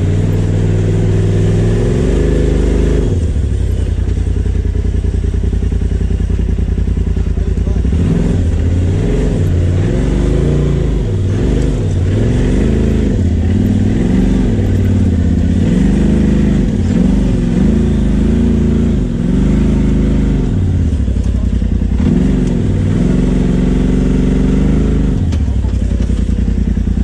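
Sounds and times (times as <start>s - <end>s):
engine revving in throttle blips: 0.0s - 27.0s.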